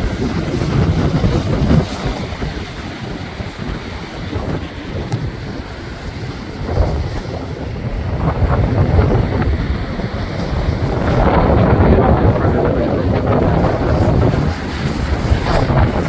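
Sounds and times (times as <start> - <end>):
surf breaking against rocks: 0.0 - 16.0
wind buffeting microphone: 0.0 - 16.0.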